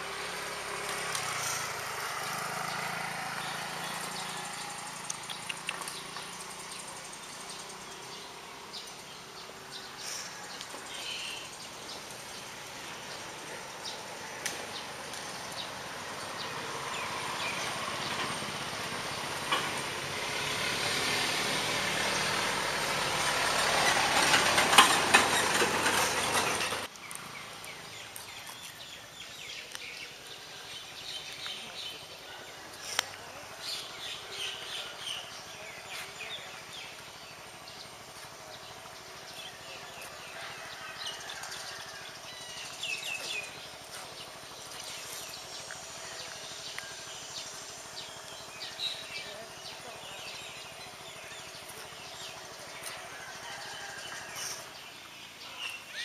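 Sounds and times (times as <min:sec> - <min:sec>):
motor vehicle on road: 0:00.0 - 0:56.0.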